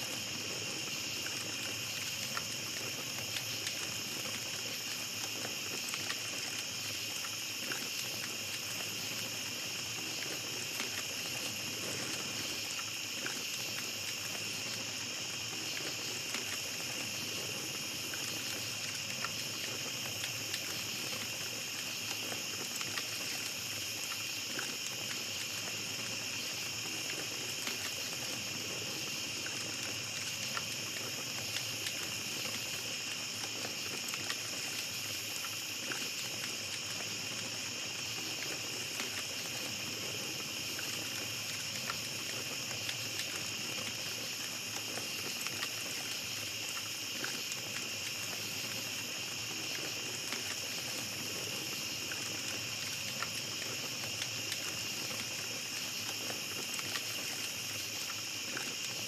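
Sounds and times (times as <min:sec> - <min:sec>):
campfire crackling: 0:00.0 - 0:59.0
night forest drone: 0:00.0 - 0:59.0.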